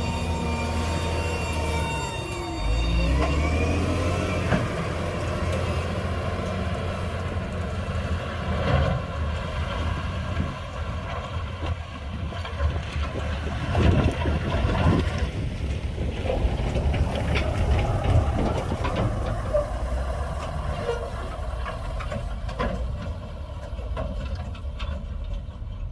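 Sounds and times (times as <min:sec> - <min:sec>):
heavy machinery diesel engine: 0:00.0 - 0:25.9.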